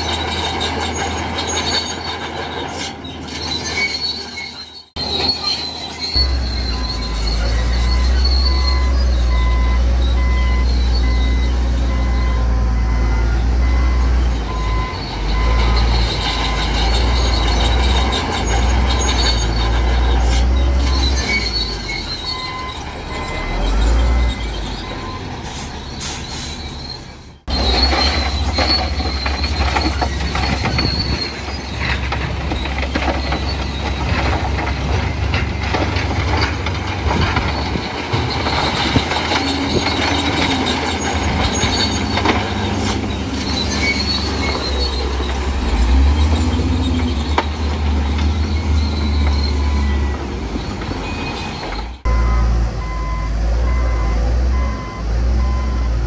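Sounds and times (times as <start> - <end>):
bulldozer diesel engine under load: 0.0 - 56.0
steel tracks squealing and clanking: 0.0 - 56.0.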